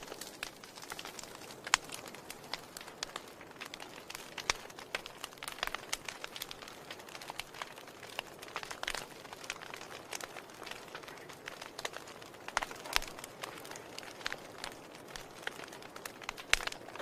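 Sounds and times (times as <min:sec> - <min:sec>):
fire hissing: 0:00.0 - 0:17.0
wood fire crackling and popping: 0:00.0 - 0:17.0.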